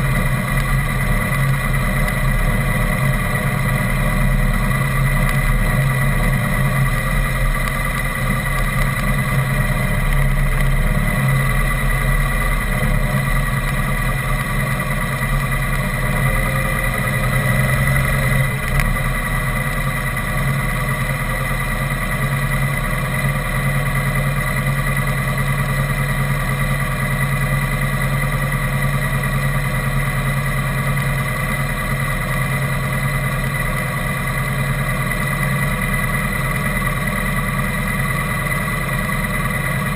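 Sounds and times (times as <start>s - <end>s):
steady whine: 0.0s - 39.9s
vehicle engine running: 0.0s - 39.9s.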